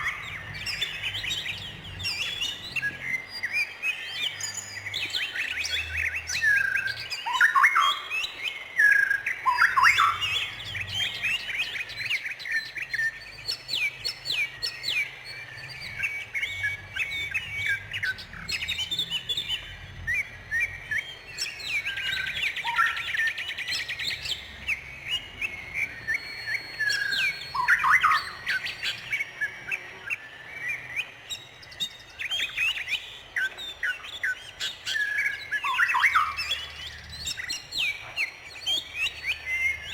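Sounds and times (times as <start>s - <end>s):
bird trill: 0.0s - 39.9s
songbirds chirping and singing: 0.0s - 39.9s.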